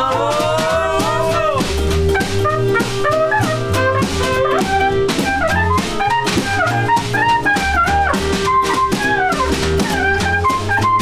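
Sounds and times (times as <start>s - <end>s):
bass line: 0.0s - 11.0s
clarinet melody: 0.0s - 11.0s
drum kit: 0.0s - 11.0s
trumpet melody: 0.0s - 11.0s.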